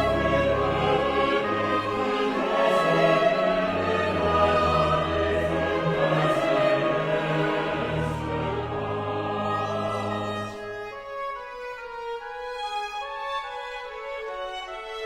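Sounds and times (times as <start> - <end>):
choir and orchestra performing: 0.0 - 15.0.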